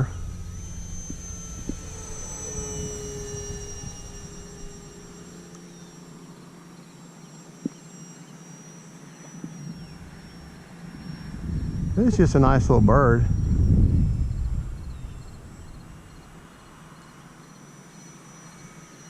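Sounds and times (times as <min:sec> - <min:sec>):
model plane motor whine: 0:00.0 - 0:19.0.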